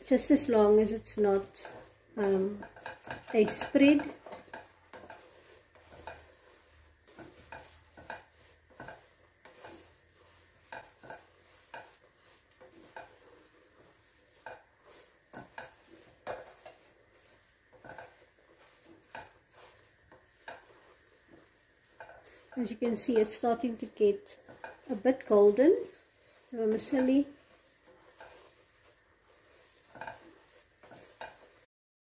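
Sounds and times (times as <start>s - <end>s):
light sizzle: 0.0s - 31.7s
spoon knocking and scraping pot: 0.0s - 31.7s.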